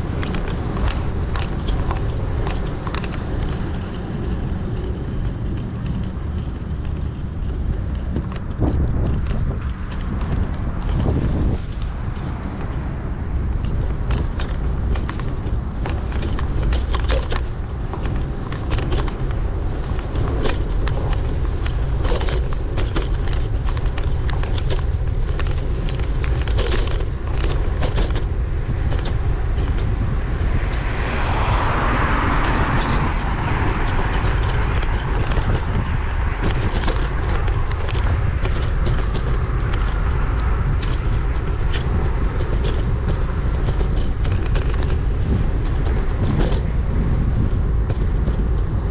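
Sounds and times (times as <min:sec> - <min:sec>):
rattling clicks: 0:00.0 - 0:48.8
motor vehicle passing: 0:00.0 - 0:48.9
wind rumbling on microphone: 0:00.0 - 0:48.9.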